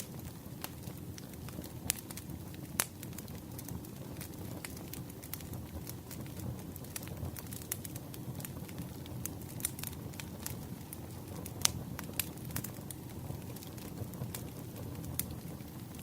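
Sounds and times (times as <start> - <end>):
campfire pops and snaps: 0.0 - 16.0
low rumble of burning wood: 0.0 - 16.0.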